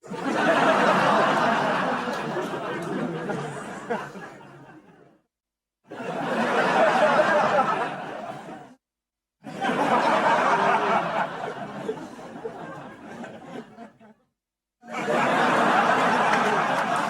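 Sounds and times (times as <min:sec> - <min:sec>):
studio audience laughter: 0:00.0 - 0:05.2, 0:05.9 - 0:08.8, 0:09.4 - 0:17.0.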